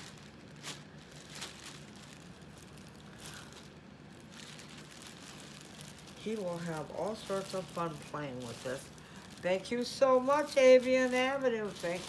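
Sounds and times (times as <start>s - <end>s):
low steady hum: 0.0s - 12.0s
soft rustling: 0.0s - 12.0s.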